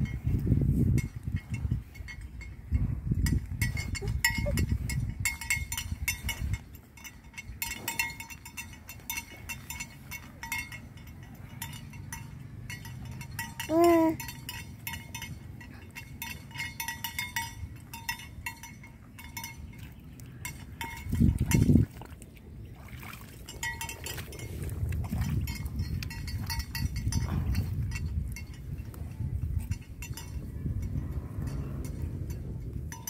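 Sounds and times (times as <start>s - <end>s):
light metallic clinks: 0.0s - 21.7s, 23.4s - 33.0s
water buffalo rumbling in mud: 0.0s - 33.0s.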